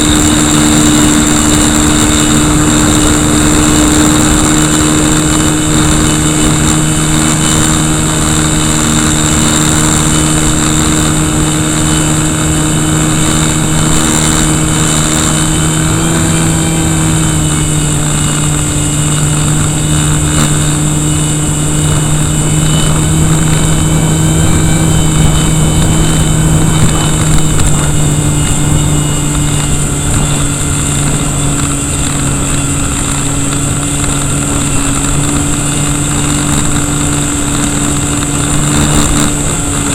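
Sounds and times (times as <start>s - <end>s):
electric motor and propeller running: 0.0s - 39.9s
wind rushing over microphone: 0.0s - 39.9s.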